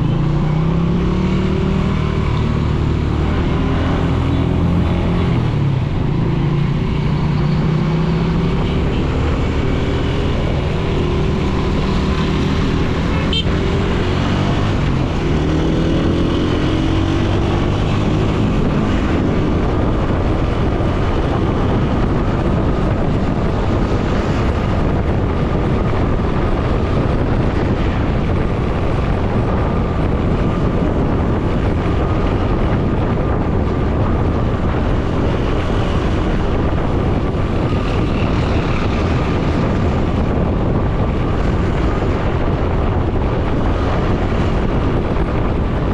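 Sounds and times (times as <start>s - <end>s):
wind and road rush: 0.0s - 45.9s.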